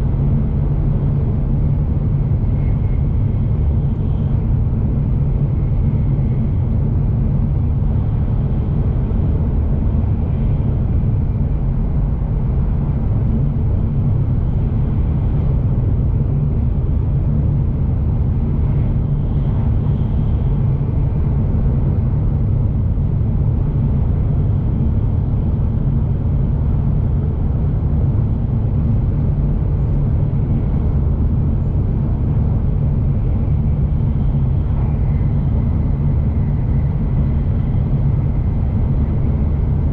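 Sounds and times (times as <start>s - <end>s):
train rumbling inside cabin: 0.0s - 39.9s.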